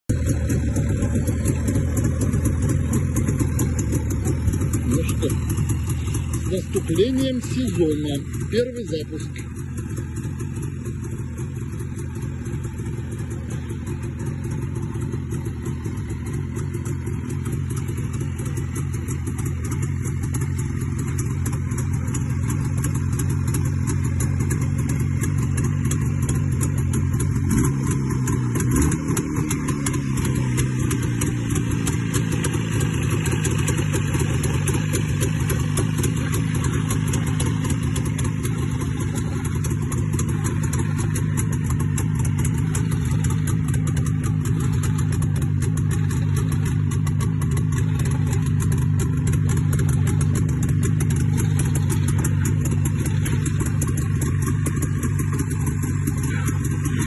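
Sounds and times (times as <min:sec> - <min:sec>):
two-stroke motorcycle engine running: 0:00.0 - 0:57.0.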